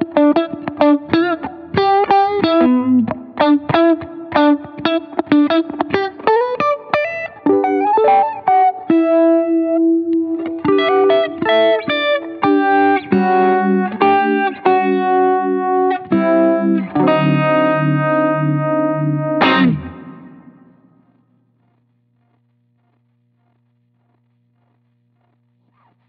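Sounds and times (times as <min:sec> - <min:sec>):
electric guitar with modulation: 0:00.0 - 0:26.0.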